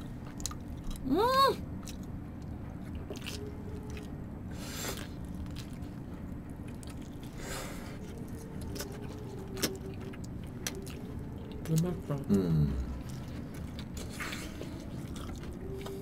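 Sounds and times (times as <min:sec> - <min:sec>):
faint chewing: 0:00.0 - 0:01.1, 0:01.7 - 0:16.0
low hum: 0:00.0 - 0:16.0.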